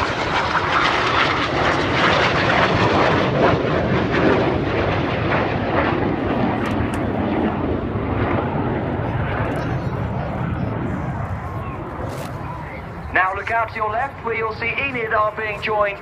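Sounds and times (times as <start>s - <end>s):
jet noise: 0.0s - 16.0s.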